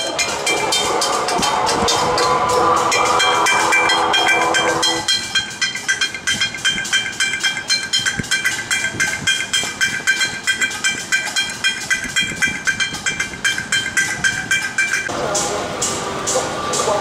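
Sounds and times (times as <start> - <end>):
held pitched tone: 0.0 - 17.0.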